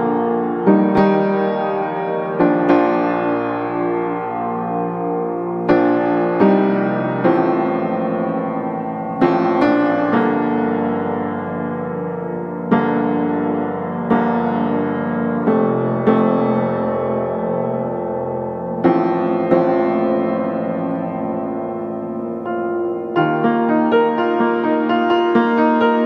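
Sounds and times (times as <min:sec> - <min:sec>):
slow solo piano: 0:00.0 - 0:26.0.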